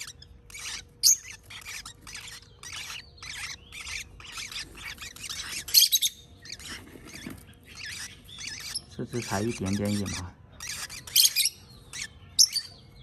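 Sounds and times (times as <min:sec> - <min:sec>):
parrot chicks raspy calls: 0:00.0 - 0:13.0.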